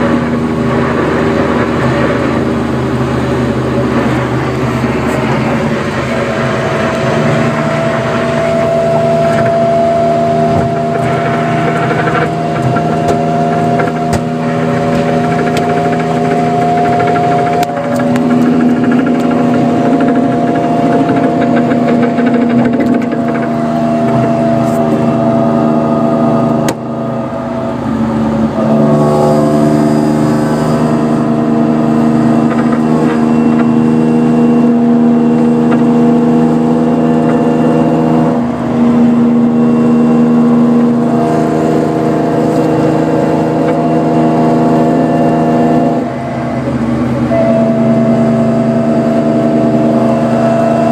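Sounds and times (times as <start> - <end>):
car engine running: 0.0 - 50.9.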